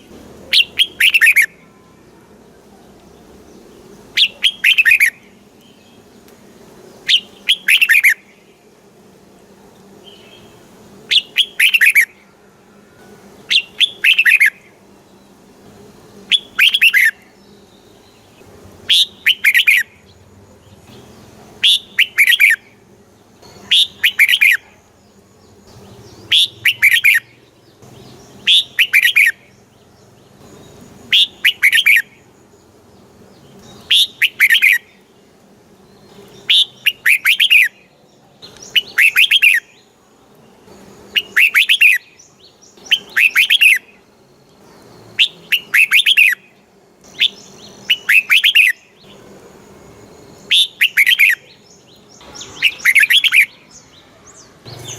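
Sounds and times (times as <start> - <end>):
bulbul singing: 0.0 - 54.9.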